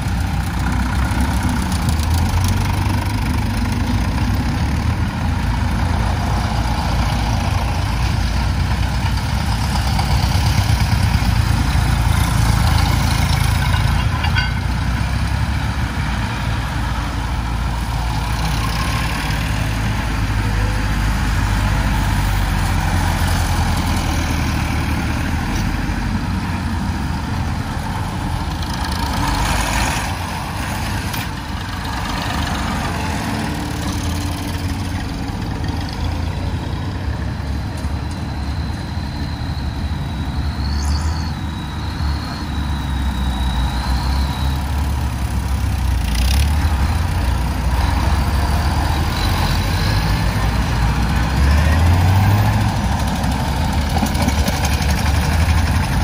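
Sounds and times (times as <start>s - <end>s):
tractor engines throbbing: 0.0s - 56.0s.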